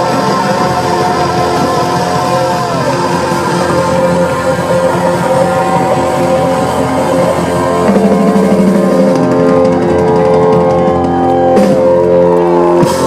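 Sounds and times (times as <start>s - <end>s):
blues-rock band playing loudly: 0.0s - 13.0s
wavering electric guitar notes: 0.0s - 13.0s.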